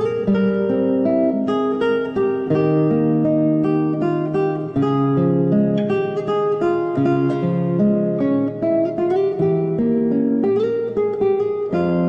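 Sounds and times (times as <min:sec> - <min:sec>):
fingerstyle classical guitar: 0:00.0 - 0:12.0.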